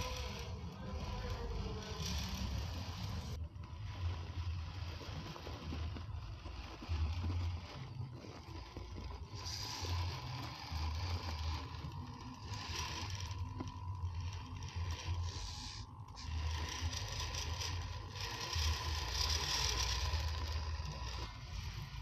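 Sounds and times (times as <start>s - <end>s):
rc car motor and gears whining: 0.0s - 22.0s.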